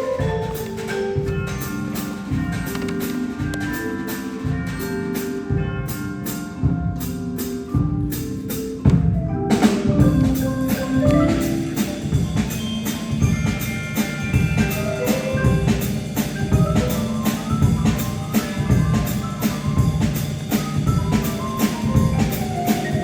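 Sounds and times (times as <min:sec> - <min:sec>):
concert band playing: 0:00.0 - 0:23.0
percussion strokes: 0:00.0 - 0:23.0.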